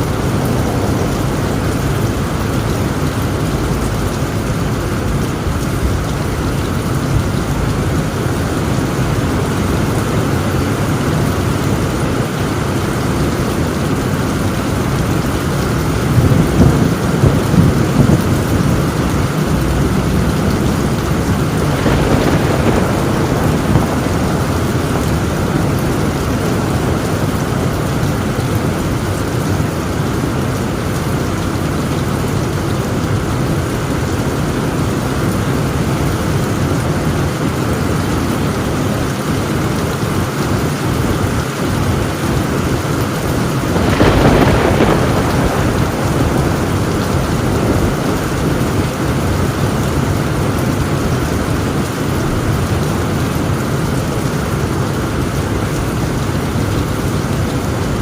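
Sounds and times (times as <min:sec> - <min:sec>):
heavy rain on a tin roof: 0:00.0 - 0:58.0
thunder rumble: 0:00.0 - 0:58.0.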